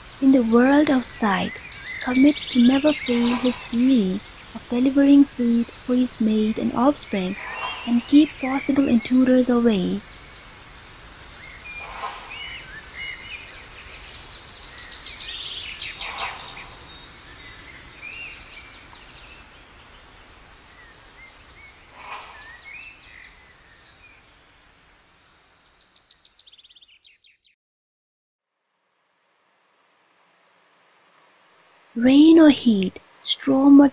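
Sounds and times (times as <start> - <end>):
steady background hiss: 0.0 - 27.0, 28.6 - 33.9
small birds chirping: 0.0 - 27.5.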